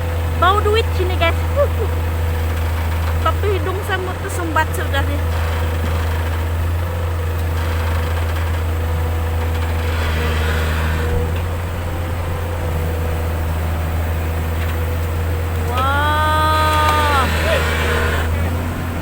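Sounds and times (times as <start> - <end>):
engine running with low drone: 0.0 - 19.0.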